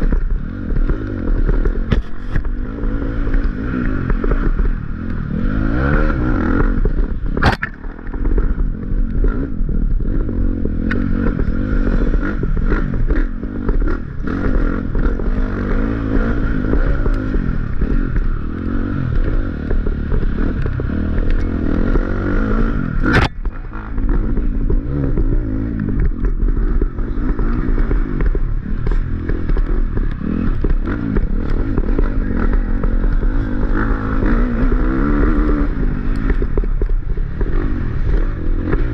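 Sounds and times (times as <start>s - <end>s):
bike rattling and scraping: 0.0s - 38.9s
dirt bike engine revving: 0.0s - 38.9s.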